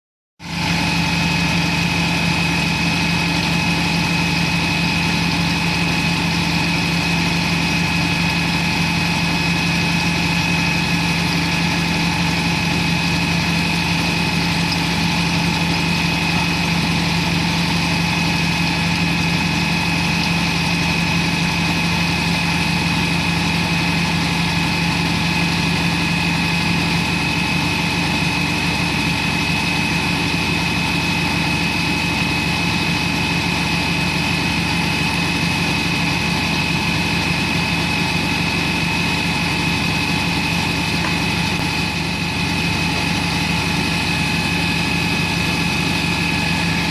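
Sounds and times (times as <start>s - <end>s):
pump engine droning with whine: 0.4s - 46.9s.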